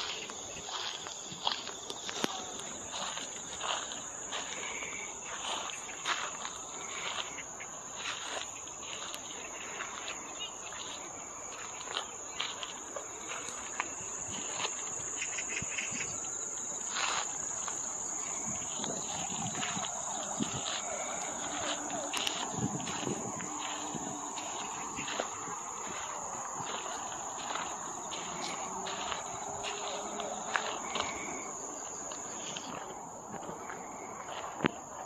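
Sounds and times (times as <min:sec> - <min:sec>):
footsteps on a path: 0:00.0 - 0:35.0
insects chirring in grass: 0:00.0 - 0:35.0.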